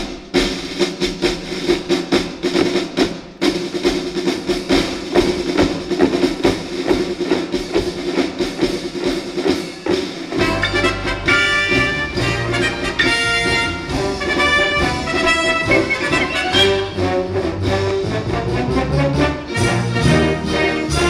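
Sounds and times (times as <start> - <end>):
marching snare drums: 0.0 - 21.0.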